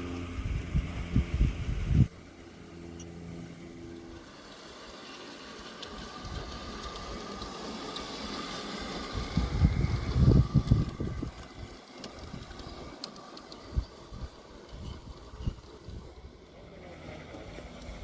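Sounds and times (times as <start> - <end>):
model trains rumbling on track: 0.0 - 18.0.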